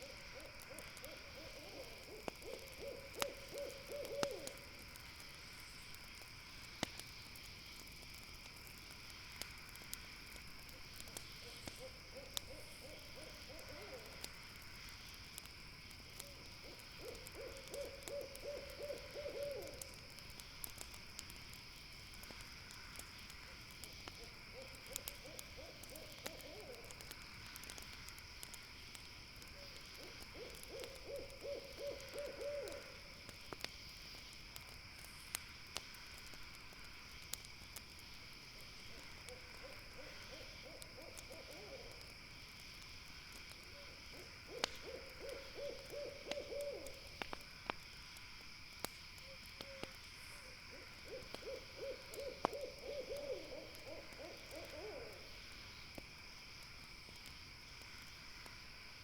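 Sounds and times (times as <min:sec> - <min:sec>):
campfire crackling: 0:00.0 - 0:59.0
night insects droning: 0:00.0 - 0:59.0.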